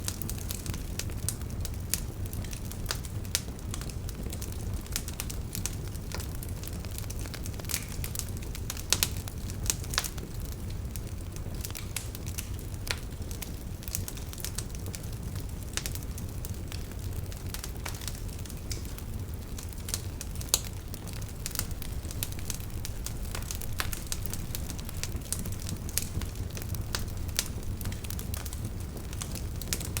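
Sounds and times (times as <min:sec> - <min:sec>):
campfire crackling and popping: 0:00.0 - 0:30.0
low rumble of flames: 0:00.0 - 0:30.0.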